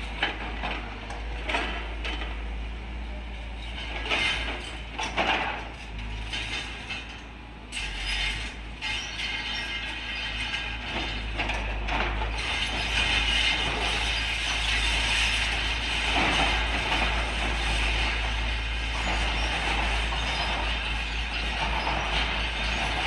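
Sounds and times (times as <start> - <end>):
excavator engine running: 0.0 - 8.8, 9.9 - 23.0.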